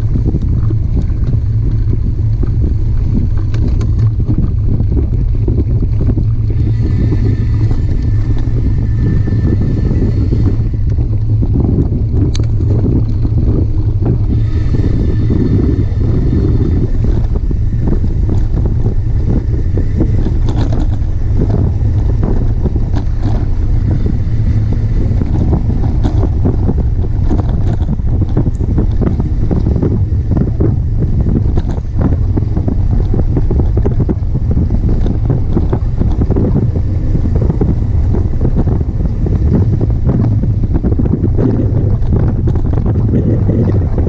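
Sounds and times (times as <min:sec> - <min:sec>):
bike tyres rolling on gravel: 0:00.0 - 0:44.0
wind buffeting microphone: 0:00.0 - 0:44.0.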